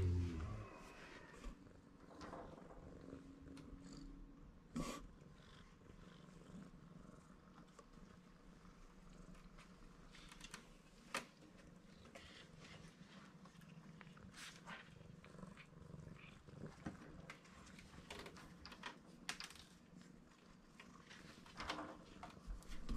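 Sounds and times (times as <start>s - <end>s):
kitten purring: 0.0s - 22.9s.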